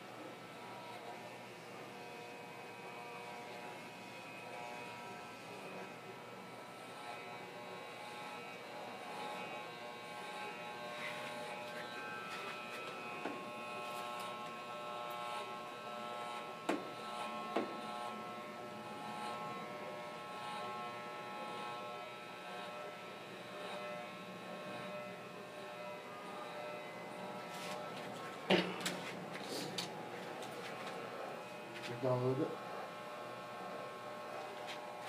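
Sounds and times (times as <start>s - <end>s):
electric hair clippers buzzing: 0.0s - 35.0s.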